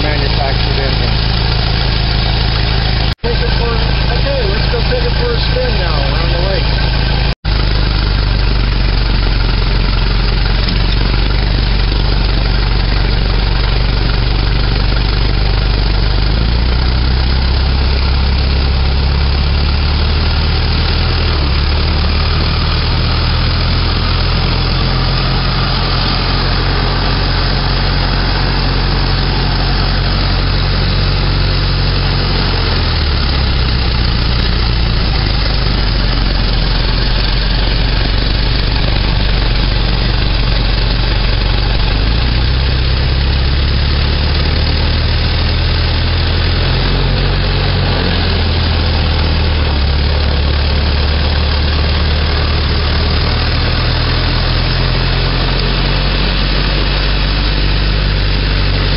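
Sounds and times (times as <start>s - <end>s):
old car engine running: 0.0s - 58.9s.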